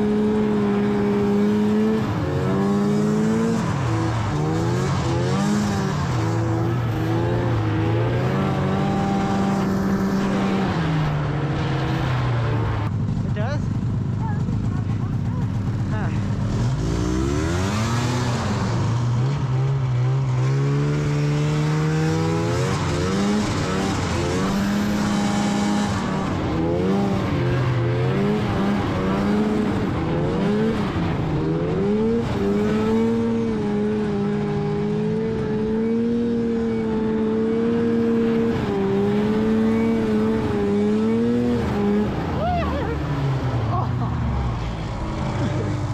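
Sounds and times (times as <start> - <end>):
snowmobile engine revving: 0.0 - 45.9.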